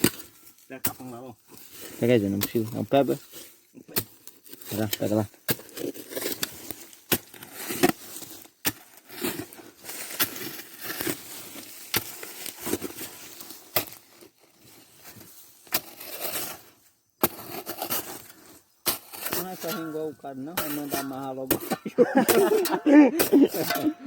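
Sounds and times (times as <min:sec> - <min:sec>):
hand tools digging into earth: 0:00.0 - 0:24.0.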